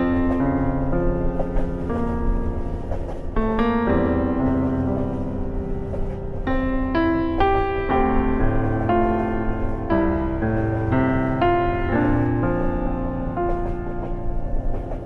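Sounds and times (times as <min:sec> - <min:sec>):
calm piano music: 0:00.0 - 0:15.0.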